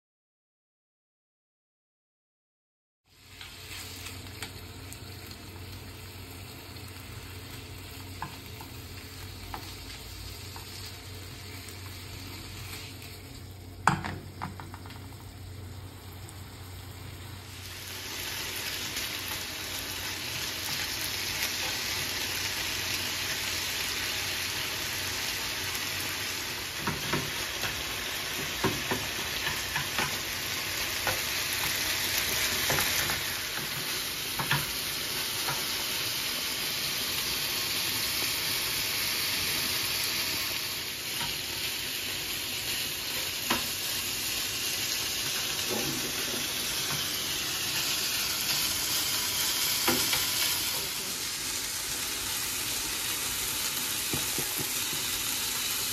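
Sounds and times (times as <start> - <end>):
food sizzling in a pan: 3.1 - 55.9.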